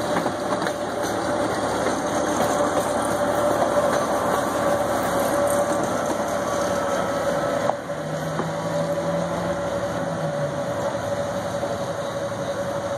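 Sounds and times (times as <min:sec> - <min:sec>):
engine drone: 0:00.0 - 0:12.9
train carriages rolling by: 0:00.0 - 0:12.9.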